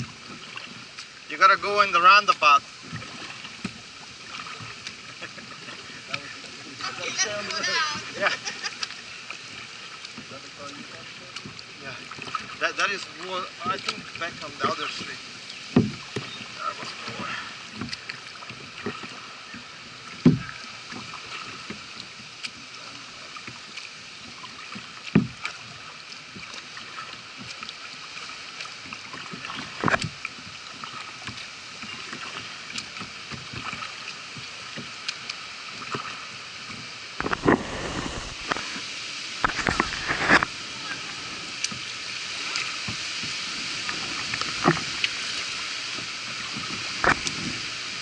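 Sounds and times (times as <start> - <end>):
kayak paddle strokes in water: 0.0 - 48.0
moving water wash: 0.0 - 48.0
wind: 0.0 - 48.0.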